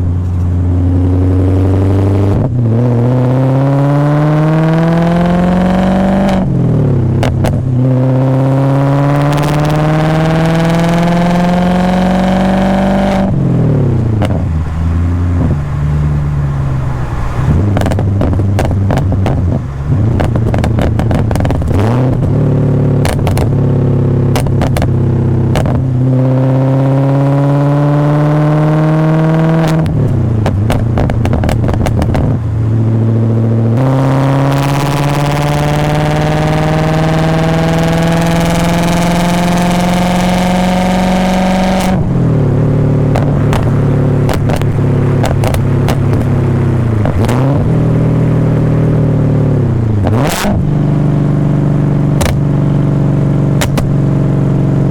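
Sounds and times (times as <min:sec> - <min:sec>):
car engine accelerating: 0:00.0 - 0:54.9
exhaust crackles: 0:00.0 - 0:54.9.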